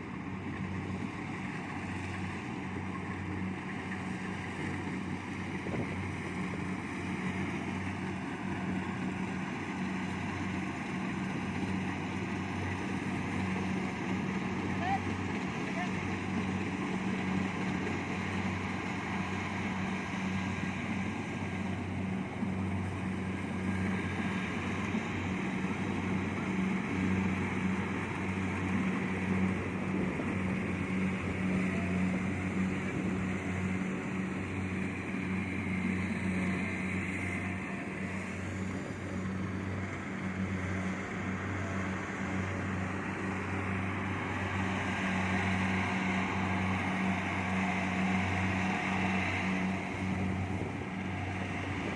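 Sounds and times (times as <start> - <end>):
combine harvester diesel drone: 0.0 - 51.9.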